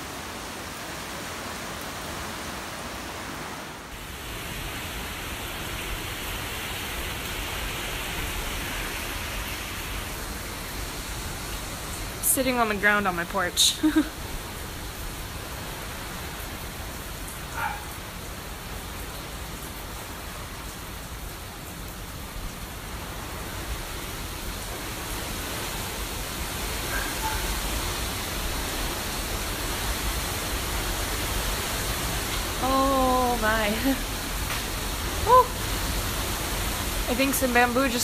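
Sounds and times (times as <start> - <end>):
heavy rain hissing: 0.0 - 38.0.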